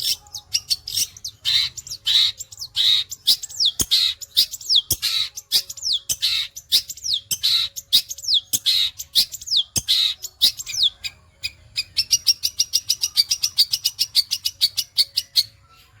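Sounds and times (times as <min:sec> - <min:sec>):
bird singing harsh notes and whistles: 0:00.0 - 0:16.0.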